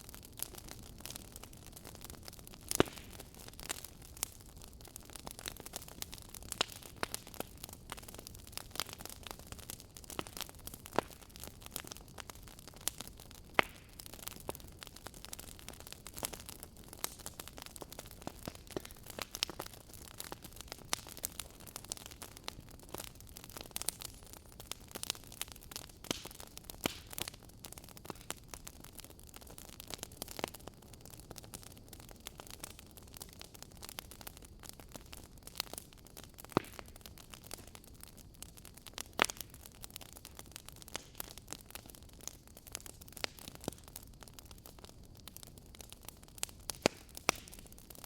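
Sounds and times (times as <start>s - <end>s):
soft steady hiss: 0.0s - 48.0s
wood fire crackling and popping: 0.0s - 48.0s.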